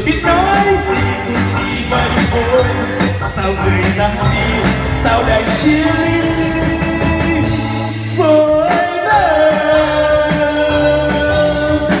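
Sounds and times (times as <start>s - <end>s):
backing band playing: 0.0s - 12.0s.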